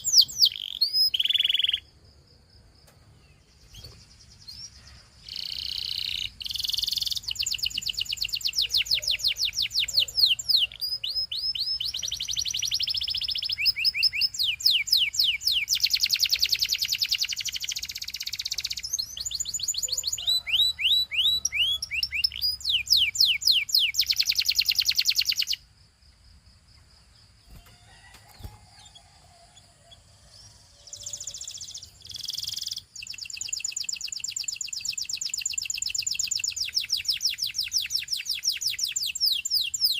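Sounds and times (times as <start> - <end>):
canary singing trills: 0.0 - 1.9, 3.3 - 25.7, 26.8 - 39.9.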